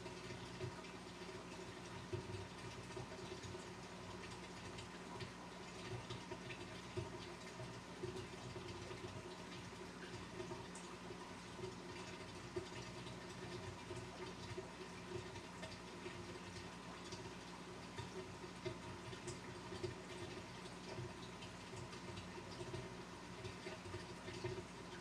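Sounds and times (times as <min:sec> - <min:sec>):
aquarium pump humming: 0:00.0 - 0:25.0
faint water trickling: 0:00.0 - 0:25.0.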